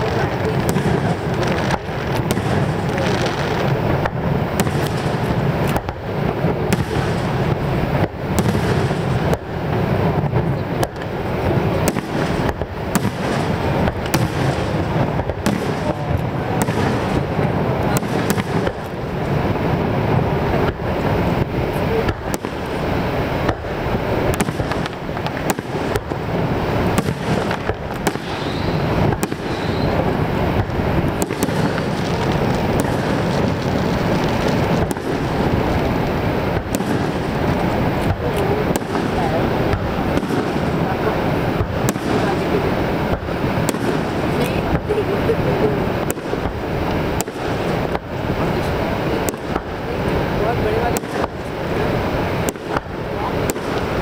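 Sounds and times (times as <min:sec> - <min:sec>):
fireworks bursting: 0:00.0 - 0:54.0
low rushing noise: 0:00.0 - 0:54.0
steady low rumble: 0:00.0 - 0:54.0.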